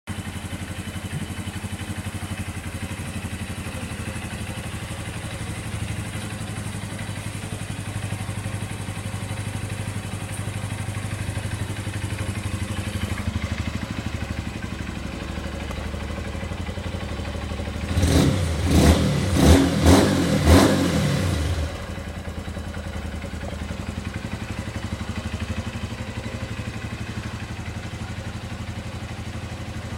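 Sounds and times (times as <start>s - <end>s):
scooter engine idling and revving: 0.1s - 29.9s.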